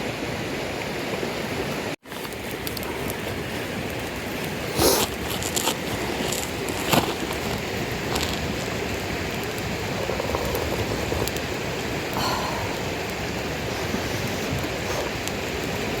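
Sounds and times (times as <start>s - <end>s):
campfire hissing: 0.0s - 16.0s
fire crackles: 0.1s - 16.0s.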